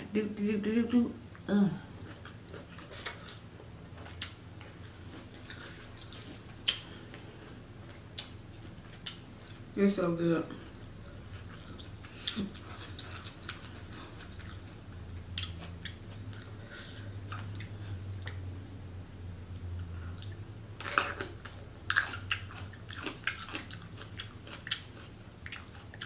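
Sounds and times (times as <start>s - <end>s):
faint low hum: 0.0s - 26.0s
chewing and biting: 2.0s - 9.7s, 10.7s - 18.4s, 20.1s - 26.0s.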